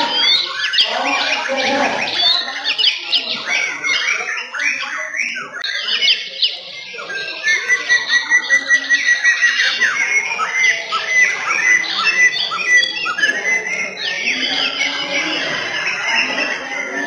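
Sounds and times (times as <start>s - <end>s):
birds singing whistled phrases: 0.0s - 17.0s.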